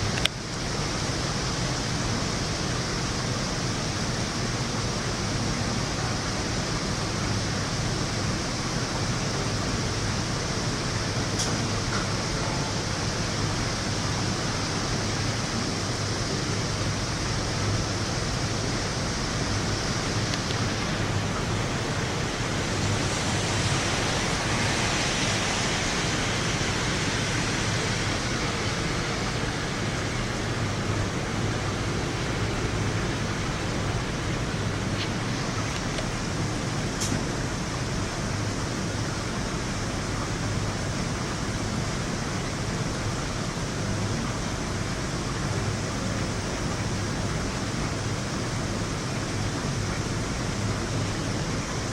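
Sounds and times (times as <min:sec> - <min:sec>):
heavy rain hissing: 0:00.0 - 0:51.9.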